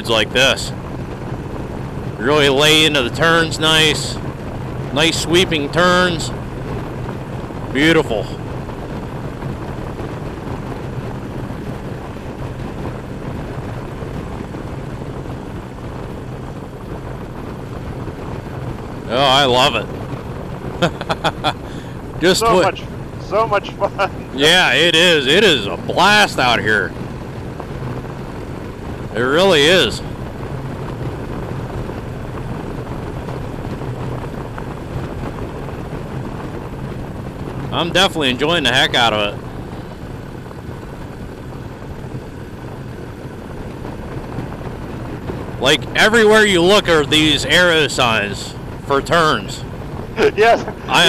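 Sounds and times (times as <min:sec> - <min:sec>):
motorcycle engine running: 0:00.0 - 0:51.0
wind and road noise: 0:00.0 - 0:51.0.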